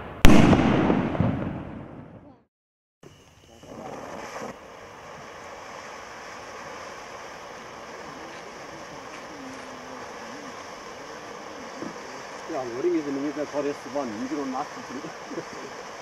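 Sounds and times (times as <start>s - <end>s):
fountain firework hissing sparks: 3.0s - 16.0s.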